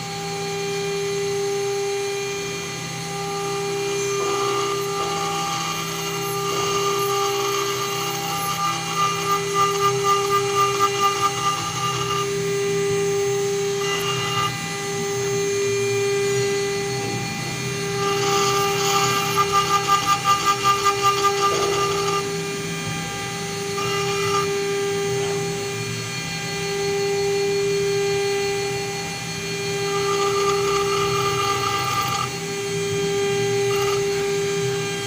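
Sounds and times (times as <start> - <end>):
engraving bit cutting metal: 0.0 - 35.0
router spindle whining: 0.0 - 35.0.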